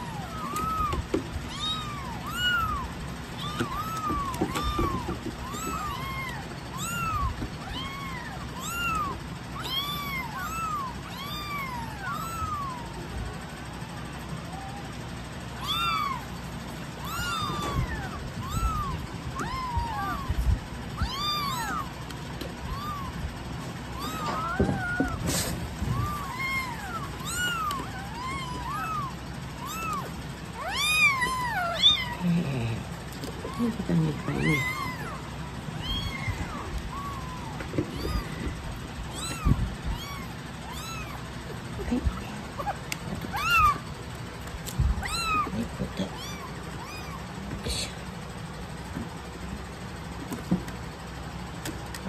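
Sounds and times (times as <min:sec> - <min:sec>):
kitten mewing: 0:00.0 - 0:48.2.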